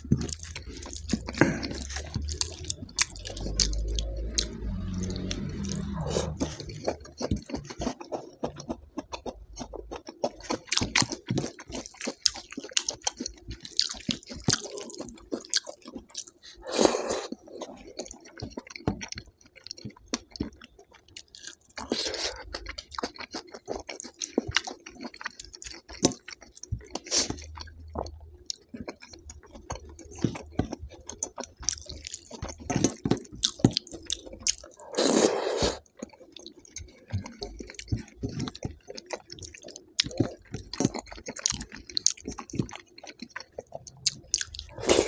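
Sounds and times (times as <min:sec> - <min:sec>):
person chewing with mouth smacks: 0:00.0 - 0:45.0.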